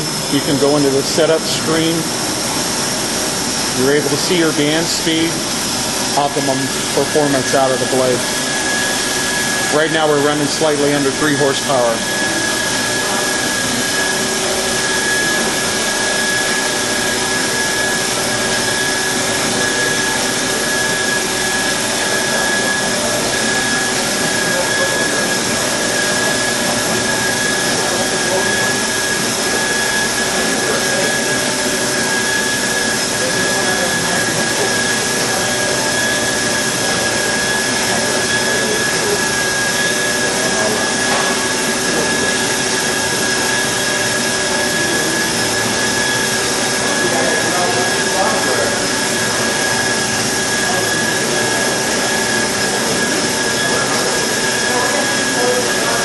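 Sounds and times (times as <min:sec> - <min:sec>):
bandsaw cutting metal whining: 0:00.0 - 0:56.0.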